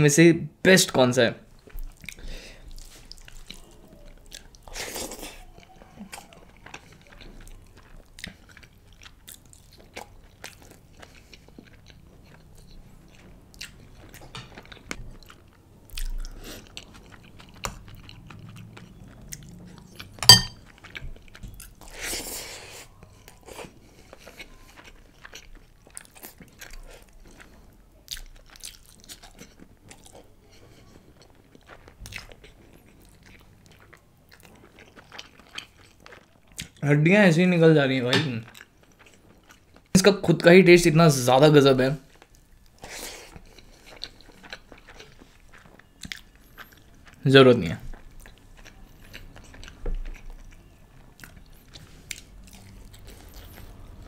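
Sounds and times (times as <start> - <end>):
man chewing food: 1.5 - 36.8, 38.4 - 40.0, 42.0 - 54.0.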